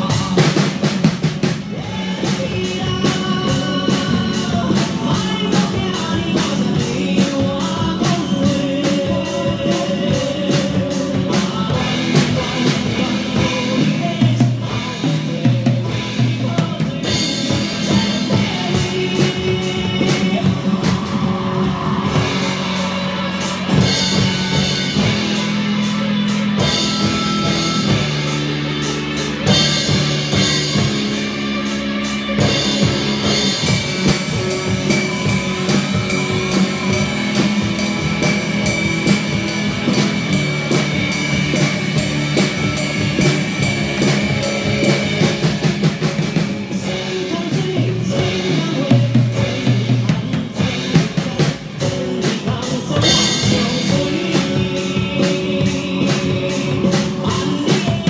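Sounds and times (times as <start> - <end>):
drum kit playing: 0.0 - 58.0
rock backing track: 0.0 - 58.0.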